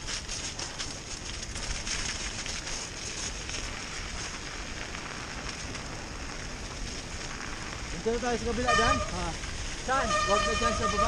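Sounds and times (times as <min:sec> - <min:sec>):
bike tyres crunching over icy snow: 0:00.0 - 0:11.0
wind rumbling on microphone: 0:00.0 - 0:11.0.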